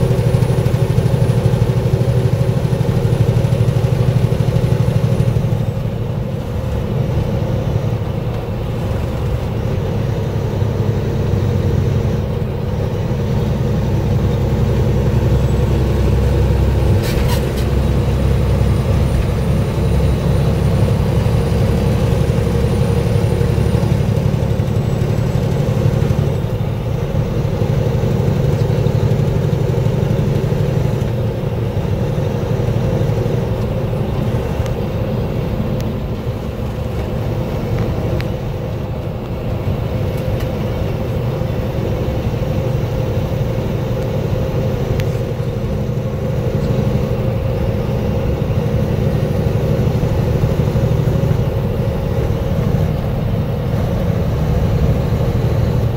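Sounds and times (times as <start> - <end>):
diesel truck engine drone: 0.0 - 55.9
tyre and road noise: 0.0 - 55.9.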